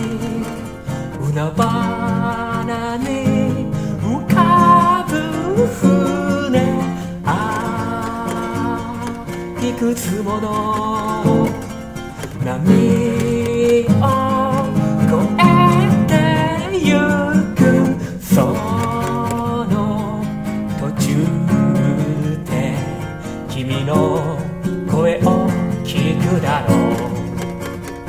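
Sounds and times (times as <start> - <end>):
classical guitar: 0.0 - 28.0
person singing: 0.0 - 28.0.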